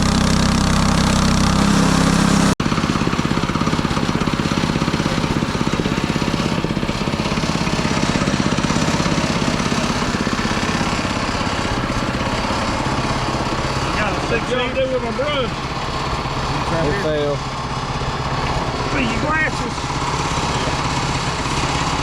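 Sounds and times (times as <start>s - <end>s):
sawmill engine pulsing: 0.0s - 22.0s.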